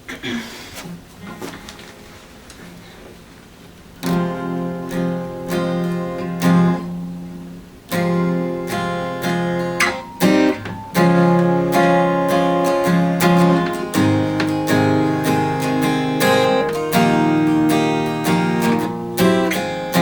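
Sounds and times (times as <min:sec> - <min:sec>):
acoustic guitar strummed: 0:01.2 - 0:03.0, 0:03.8 - 0:20.0.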